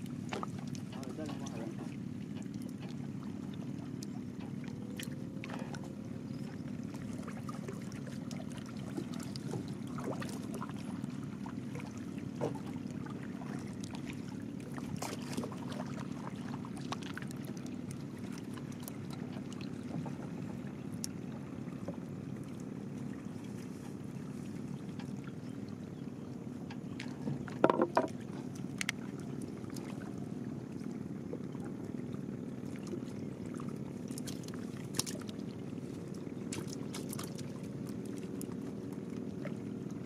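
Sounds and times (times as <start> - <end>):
water splashing: 0.0 - 5.9, 6.8 - 20.6, 27.0 - 39.9
boat motor running: 0.0 - 40.0.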